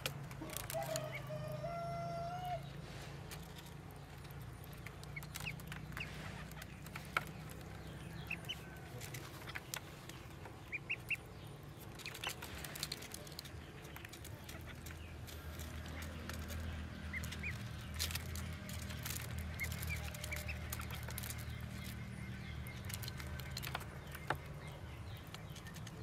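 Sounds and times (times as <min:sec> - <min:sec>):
ducklings peeping: 0:00.3 - 0:26.0
drawn-out bird call: 0:03.6 - 0:26.0.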